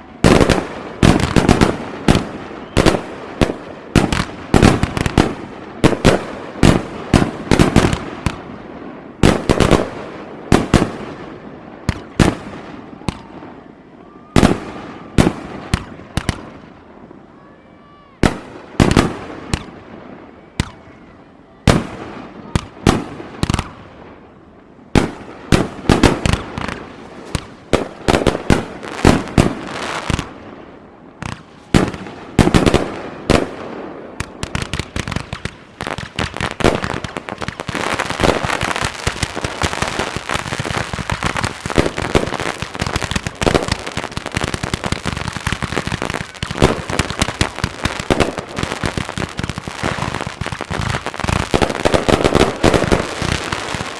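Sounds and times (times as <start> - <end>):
firework crackling: 0.0 - 17.5, 18.2 - 21.0, 21.6 - 53.9.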